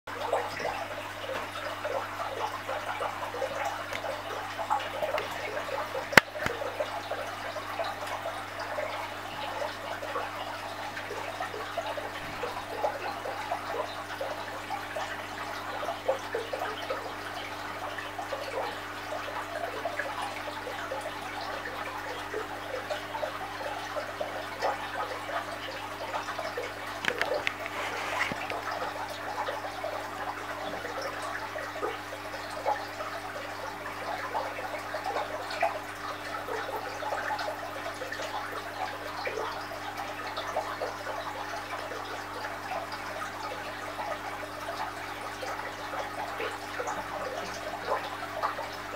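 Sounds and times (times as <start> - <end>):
aquarium water trickling: 0.1 - 48.9.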